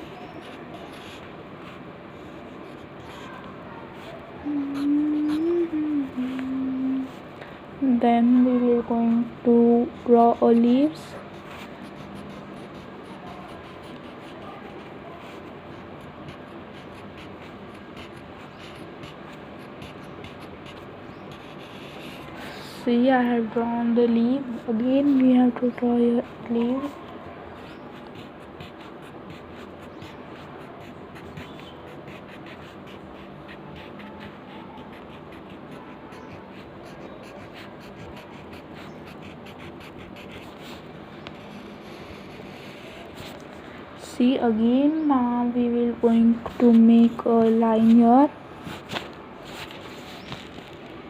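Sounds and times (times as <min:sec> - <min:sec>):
pencil scratching on paper: 0:00.0 - 0:07.3, 0:08.3 - 0:43.4.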